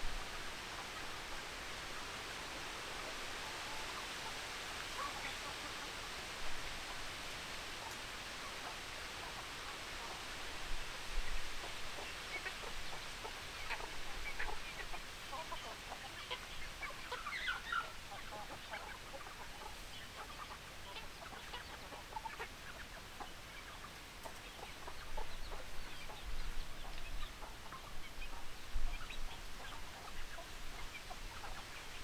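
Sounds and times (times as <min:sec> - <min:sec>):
chickens clucking: 0:00.7 - 0:32.0.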